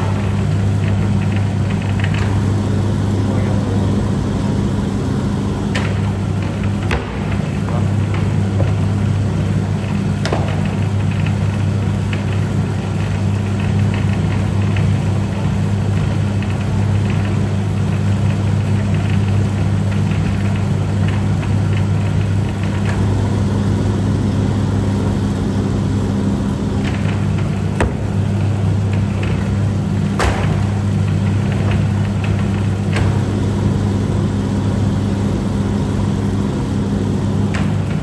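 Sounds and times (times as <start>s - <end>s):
noodle machine humming and rattling: 0.0s - 38.0s.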